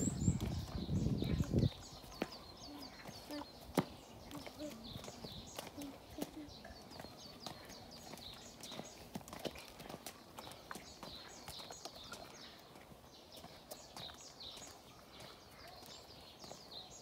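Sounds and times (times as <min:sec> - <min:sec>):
birds chirping: 0:00.0 - 0:17.0
child's footsteps on brick paving: 0:00.0 - 0:17.0.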